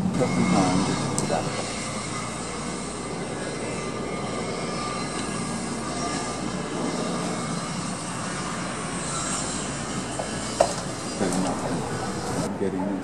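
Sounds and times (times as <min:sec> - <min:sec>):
rushing noise: 0:00.0 - 0:12.6
engine drone: 0:00.0 - 0:13.0.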